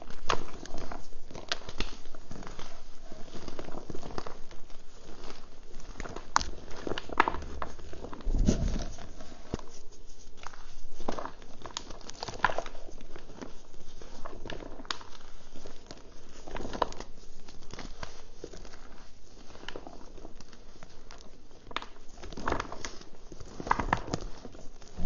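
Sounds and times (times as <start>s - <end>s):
chalk crumbs pattering: 0.0s - 25.0s.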